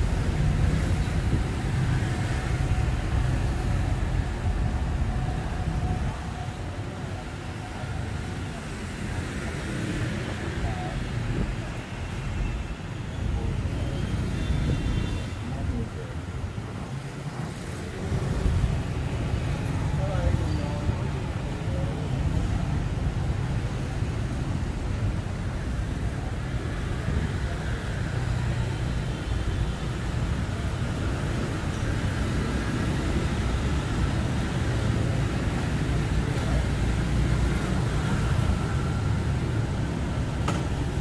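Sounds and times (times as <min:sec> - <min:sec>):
city traffic rumble: 0:00.0 - 0:41.0.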